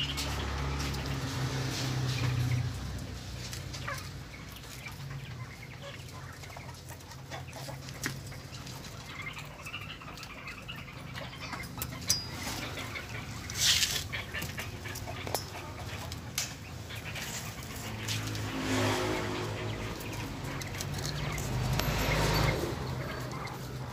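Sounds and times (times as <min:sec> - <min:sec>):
animal clucking and chirping: 0:00.0 - 0:23.9.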